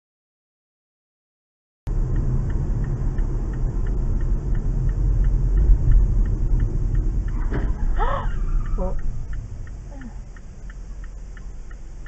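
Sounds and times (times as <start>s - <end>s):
car engine and road noise: 1.9s - 12.0s
faint regular ticking: 1.9s - 12.0s.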